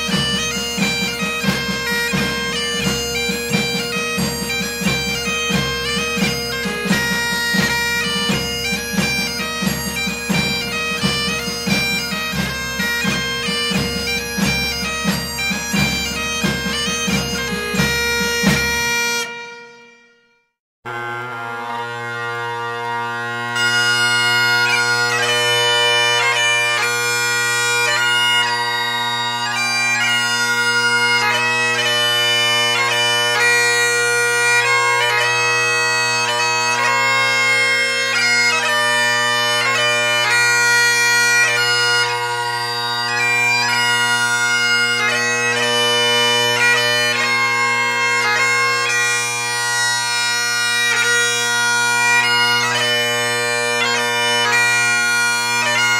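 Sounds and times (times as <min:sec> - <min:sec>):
bagpipe drones: 0:00.0 - 0:20.2, 0:20.9 - 0:55.9
bagpipe chanter melody: 0:00.0 - 0:55.9.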